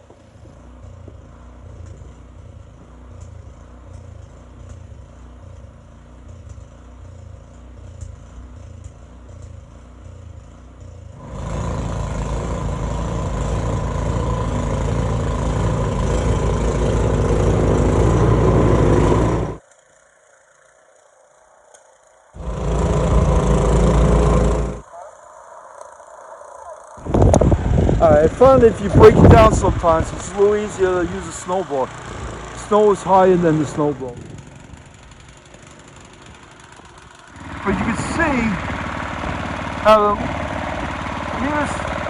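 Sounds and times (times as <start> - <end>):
snowblower engine running: 0.0 - 42.0.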